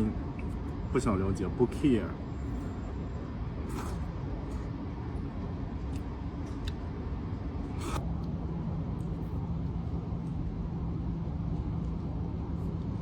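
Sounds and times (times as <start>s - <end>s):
low rumble and hum: 0.0s - 13.0s.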